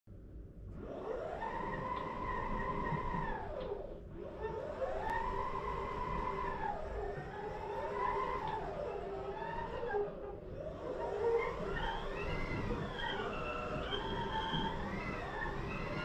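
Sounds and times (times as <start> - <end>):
electric motors whining: 0.8 - 16.0.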